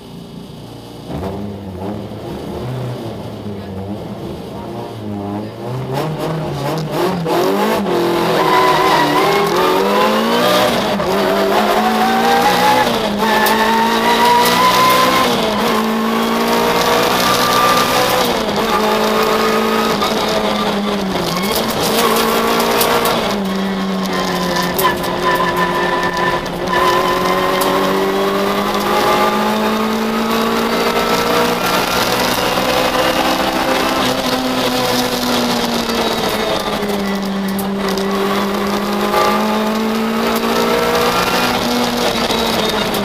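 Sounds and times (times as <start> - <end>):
car engine accelerating through gears: 0.7 - 43.0.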